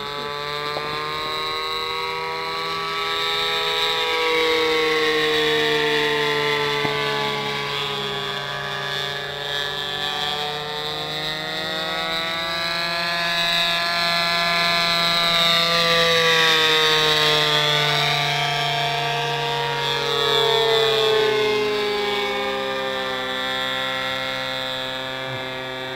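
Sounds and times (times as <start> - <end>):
model airplane engine buzzing: 0.0 - 25.9.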